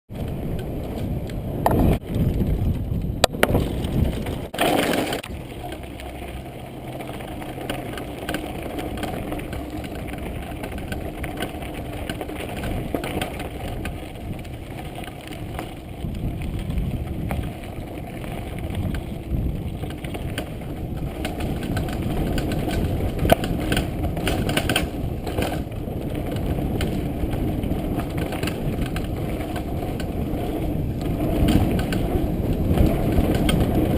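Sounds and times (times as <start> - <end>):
bike rattling and knocking: 0.1 - 33.9.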